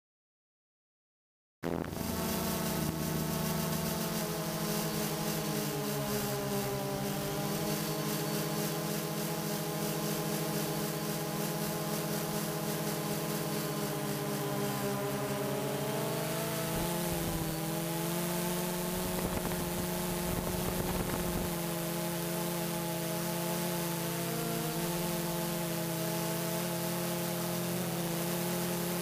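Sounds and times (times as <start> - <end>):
drone propellers whirring: 1.7 - 29.0.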